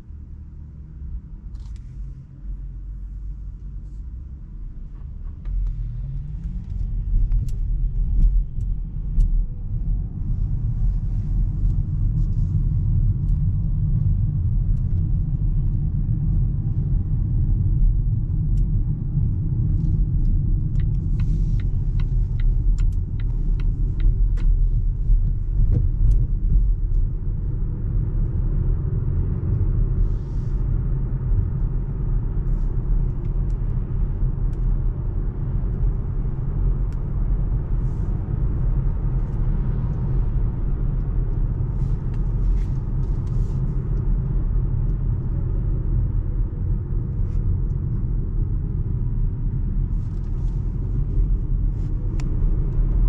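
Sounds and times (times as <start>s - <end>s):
road and tyre rumble in car: 0.0s - 53.0s.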